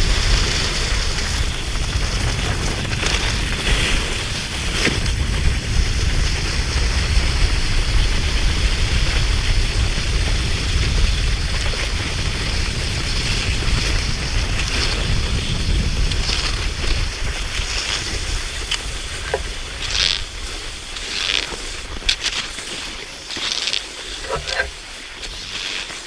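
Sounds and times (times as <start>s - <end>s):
wind buffeting microphone: 0.0s - 23.4s.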